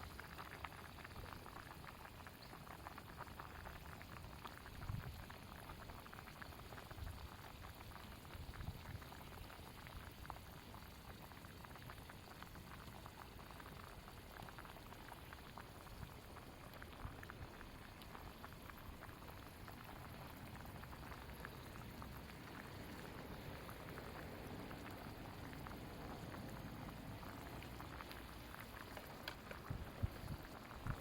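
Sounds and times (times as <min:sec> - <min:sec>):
food bubbling and sizzling in pot: 0:00.0 - 0:31.0.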